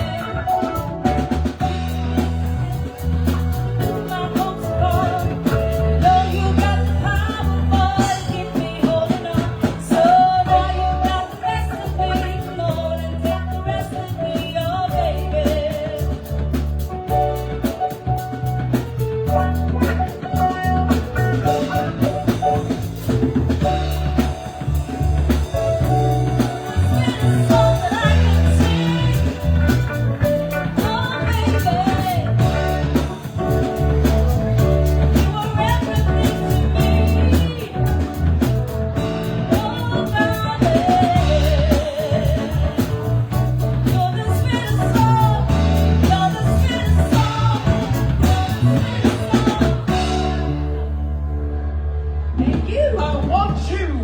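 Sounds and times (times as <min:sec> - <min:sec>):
drum kit: 0:00.0 - 0:54.0
live band music: 0:00.0 - 0:54.0
strong bass line: 0:00.0 - 0:54.0.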